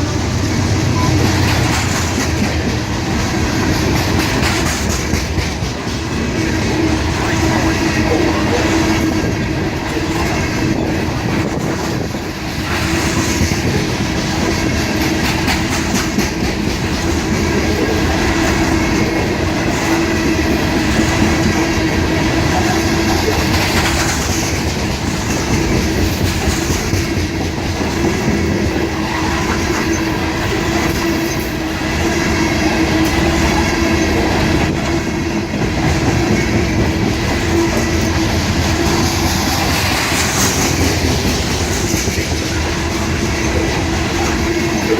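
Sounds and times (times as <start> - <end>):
train cars clicking over rail joints: 0.0 - 32.1, 32.9 - 44.9
train rumble: 0.0 - 44.9.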